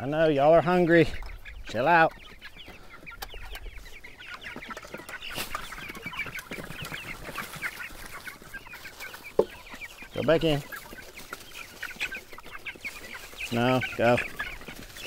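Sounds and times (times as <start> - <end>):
chicks cheeping: 0.0 - 15.0.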